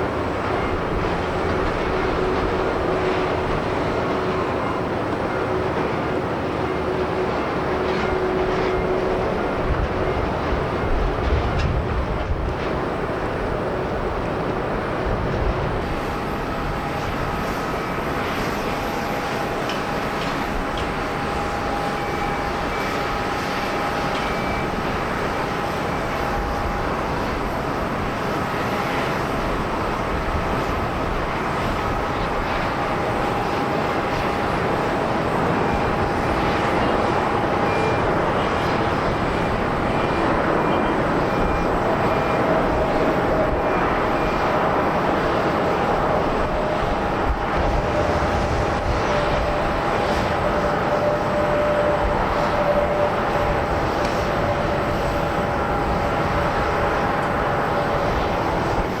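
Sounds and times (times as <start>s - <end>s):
high fan whine: 0.0s - 59.0s
jet airliner engine noise: 0.0s - 59.0s.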